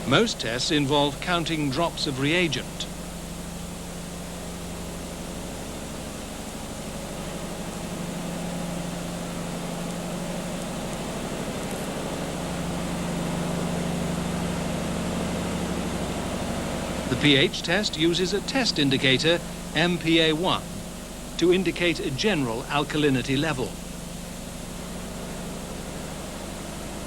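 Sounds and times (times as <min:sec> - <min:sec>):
machinery hum: 0:00.0 - 0:27.0.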